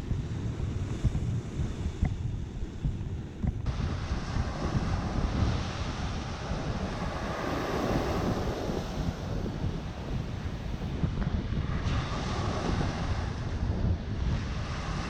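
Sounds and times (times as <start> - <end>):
sea surf washing ashore: 0.0 - 15.0
wind rumbling on microphone: 0.0 - 15.0.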